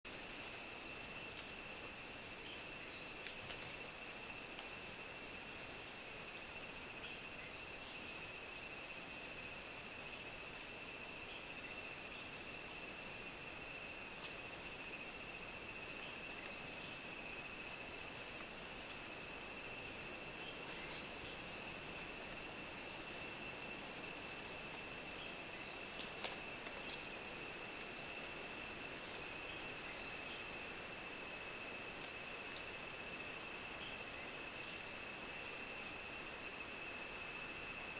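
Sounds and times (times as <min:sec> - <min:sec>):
insect chirps: 0:00.0 - 0:37.9
high-pitched insect chorus: 0:00.1 - 0:37.9.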